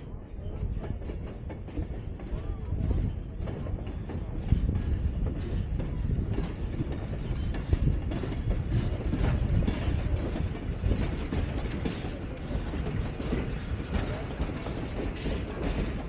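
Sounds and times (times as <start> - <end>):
train rumbling past: 0.0 - 16.0
train wheels clicking and rattling: 0.0 - 16.0.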